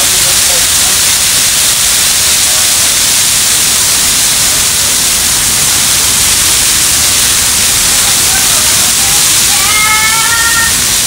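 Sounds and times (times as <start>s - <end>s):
tree burning with hissing flames: 0.0s - 11.0s.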